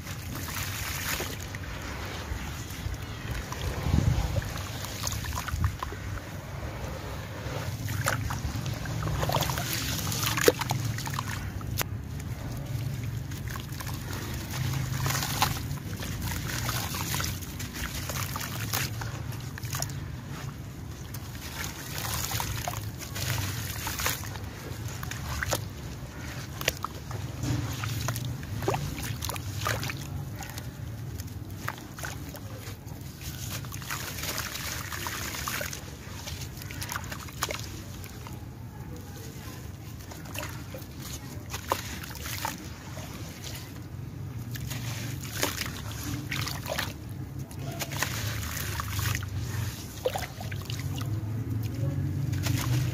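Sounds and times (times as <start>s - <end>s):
gritty crackles and splashes: 0.0s - 52.9s
hands sloshing in muddy water: 0.0s - 52.9s.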